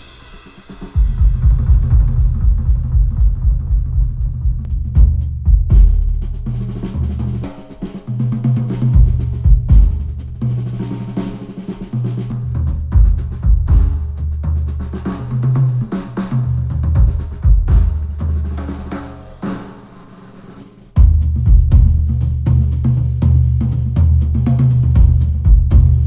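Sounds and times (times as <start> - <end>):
drum kit and bass music: 0.0 - 26.0.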